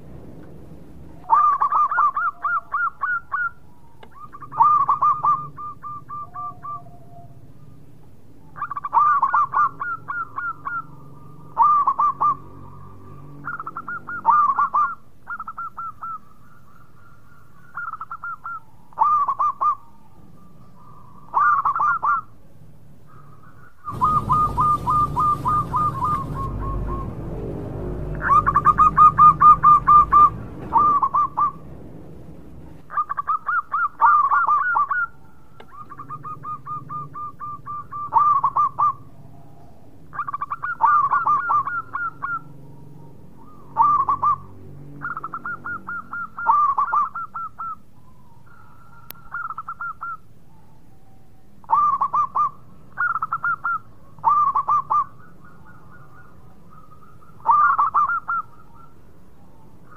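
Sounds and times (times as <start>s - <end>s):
dove cooing: 1.0s - 59.9s.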